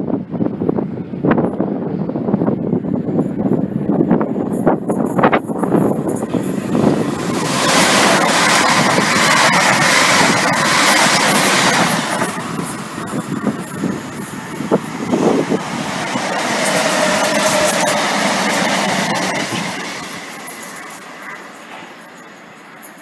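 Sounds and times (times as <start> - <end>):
electric train running past: 0.3 - 23.0.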